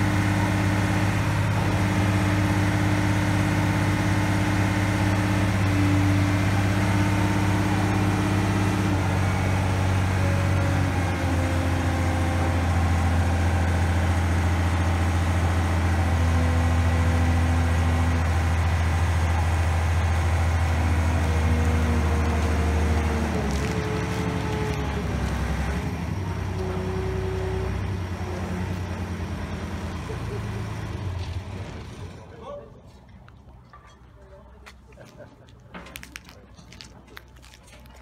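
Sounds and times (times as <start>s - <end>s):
travel lift engine droning: 0.0s - 33.8s.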